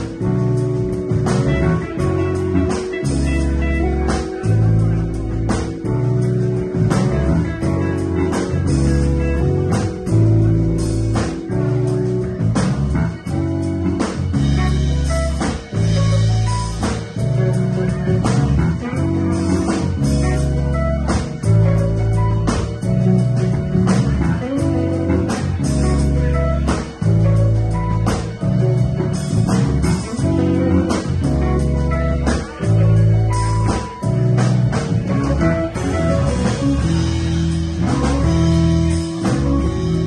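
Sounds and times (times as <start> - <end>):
drum kit: 0.0 - 40.0
electric bass guitar: 0.0 - 40.0
electric guitar: 0.0 - 40.0
keyboard: 0.0 - 40.0.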